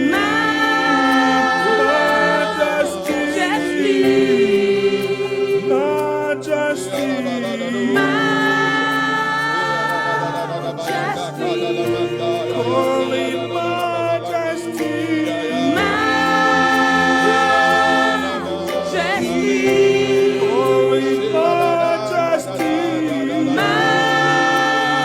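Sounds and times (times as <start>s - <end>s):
low accompanying notes: 0.0s - 25.0s
worship team singing slowly: 0.0s - 25.0s.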